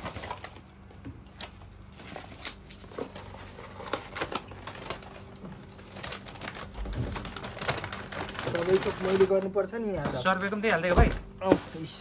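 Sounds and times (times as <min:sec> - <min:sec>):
food packaging clicks and crinkles: 0:00.0 - 0:12.0.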